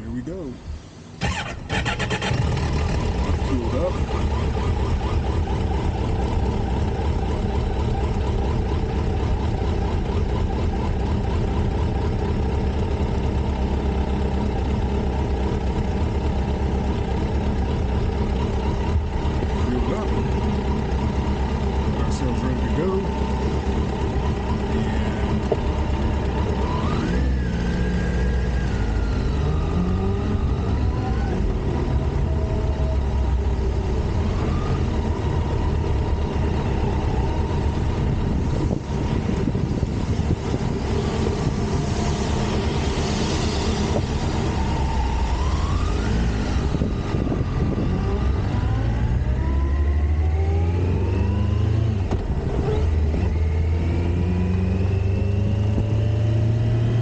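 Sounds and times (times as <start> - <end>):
motorcycle engine accelerating: 1.2 - 57.0.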